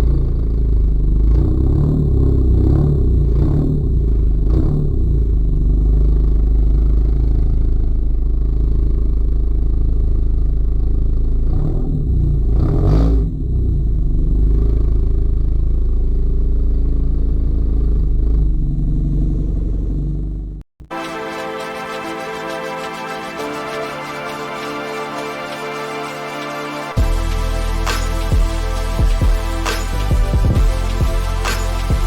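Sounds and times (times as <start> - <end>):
car exhaust drone: 0.0 - 21.0, 27.0 - 32.0.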